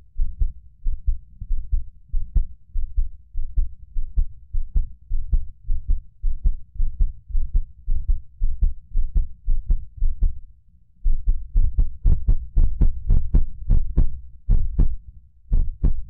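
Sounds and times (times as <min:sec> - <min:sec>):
heartbeat thuds and clicks: 0:00.2 - 0:10.4, 0:11.0 - 0:16.0.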